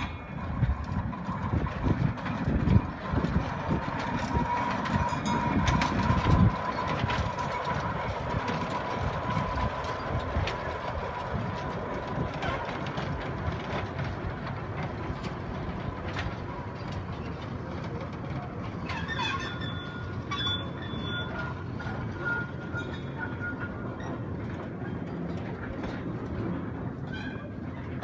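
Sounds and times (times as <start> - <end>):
train rumbling on track: 0.0 - 28.0
wheels clicking: 0.0 - 28.0.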